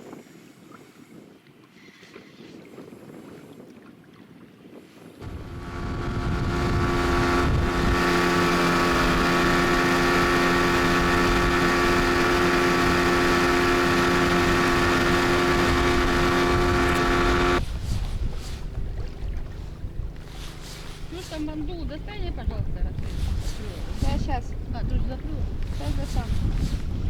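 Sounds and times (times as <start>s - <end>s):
outboard motor running: 5.2s - 27.0s.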